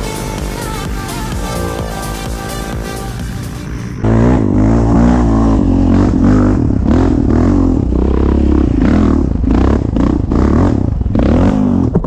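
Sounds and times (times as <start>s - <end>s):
quad bike engine revving: 0.0s - 12.0s.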